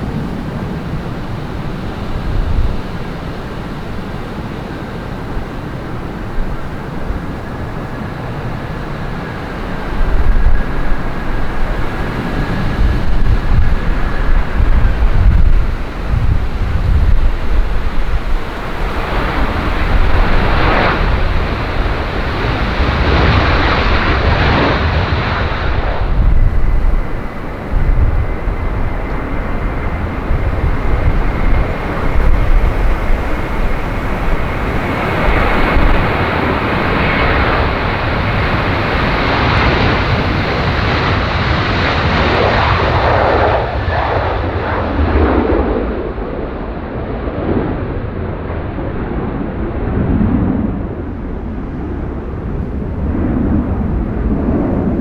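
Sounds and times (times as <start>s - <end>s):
jet engine whine: 0.0s - 55.0s
jet engines roaring: 0.0s - 55.0s
wind buffeting microphone: 0.0s - 55.0s.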